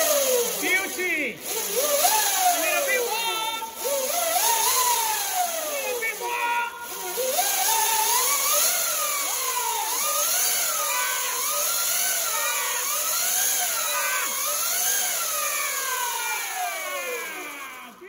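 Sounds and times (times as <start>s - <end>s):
electric dirt bike drivetrain whining: 0.0s - 18.0s.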